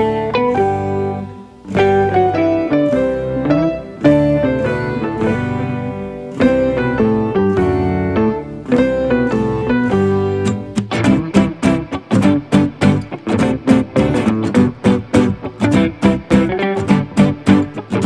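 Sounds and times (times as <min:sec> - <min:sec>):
plucked instrumental melody: 0:00.0 - 0:18.0.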